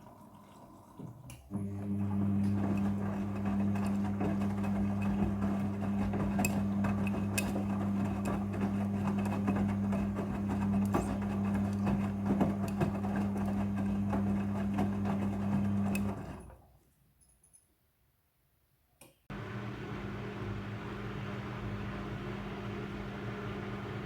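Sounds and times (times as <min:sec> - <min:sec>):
washing machine hum: 0:00.0 - 0:16.8, 0:19.3 - 0:24.0.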